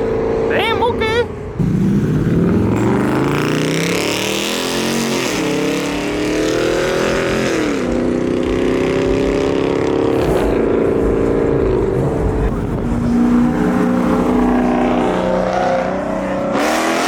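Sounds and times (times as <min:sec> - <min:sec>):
car engine revving hard: 0:01.6 - 0:17.0.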